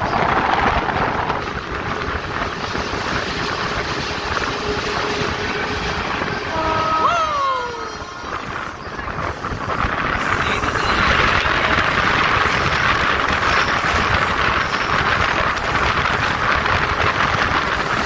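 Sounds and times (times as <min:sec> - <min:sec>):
train rushing through tunnel: 0:00.0 - 0:18.0.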